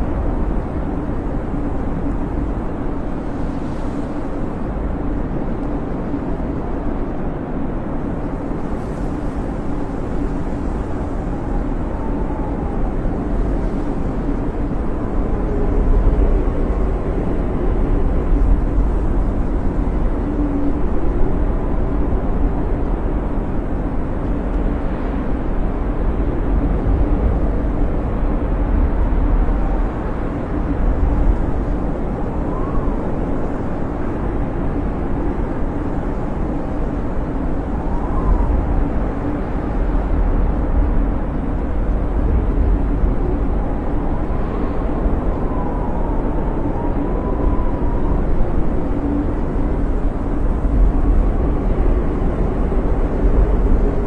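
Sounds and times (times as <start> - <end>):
faint thin wind whistles: 0.0 - 54.0
wind blowing with deep rumble: 0.0 - 54.0.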